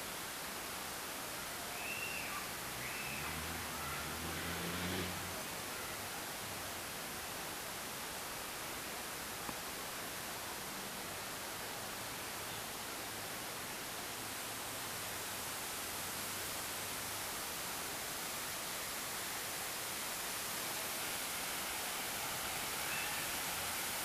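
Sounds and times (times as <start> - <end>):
fountain water jets hissing: 0.0 - 24.0.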